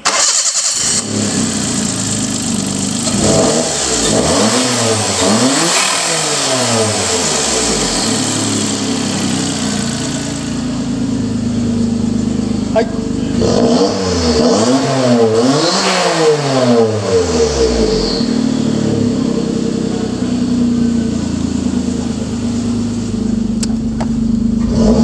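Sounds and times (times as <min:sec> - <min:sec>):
engine revving and idling: 0:00.0 - 0:25.0.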